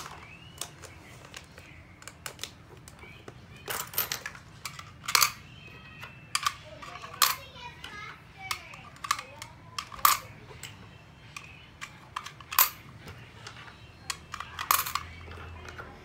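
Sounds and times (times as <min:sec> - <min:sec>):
plastic toy clicks and knocks: 0:02.0 - 0:16.0.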